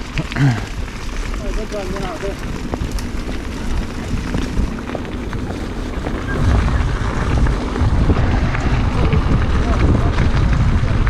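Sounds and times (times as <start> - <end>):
bike clicks and rattles: 0.0 - 11.0
wind buffeting microphone: 0.0 - 11.0.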